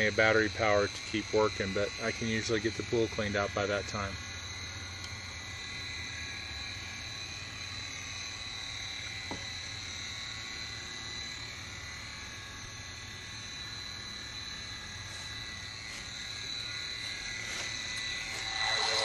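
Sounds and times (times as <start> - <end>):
high buzz: 0.0 - 19.0
pool vacuum humming under water: 0.0 - 19.0.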